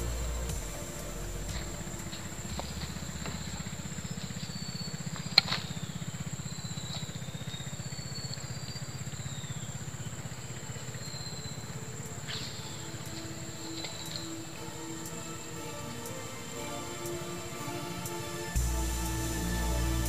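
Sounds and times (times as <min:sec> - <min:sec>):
small motor droning: 0:00.0 - 0:20.0.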